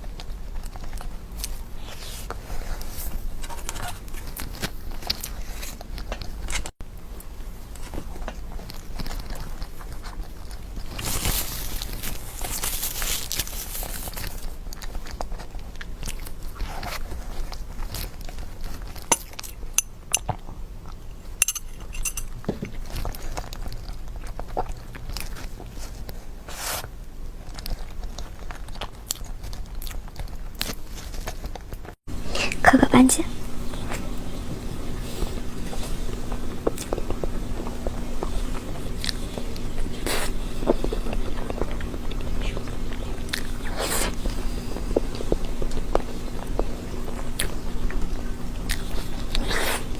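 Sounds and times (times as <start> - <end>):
biting and chewing: 0.0 - 6.7, 7.8 - 21.1, 22.7 - 26.2, 26.8 - 32.6, 33.3 - 49.9.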